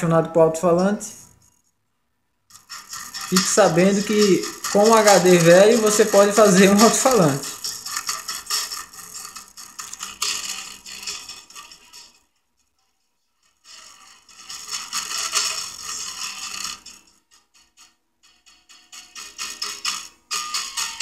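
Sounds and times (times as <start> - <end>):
tinny rattly speaker audio: 0.0 - 12.8, 13.4 - 21.0.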